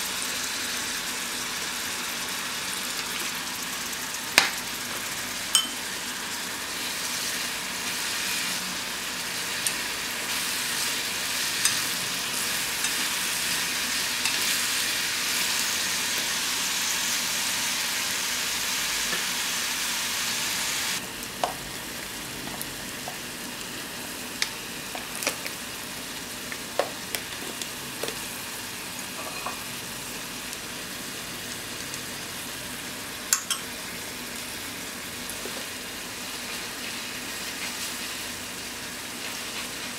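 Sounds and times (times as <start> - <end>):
beef and onions sizzling: 0.0 - 39.9.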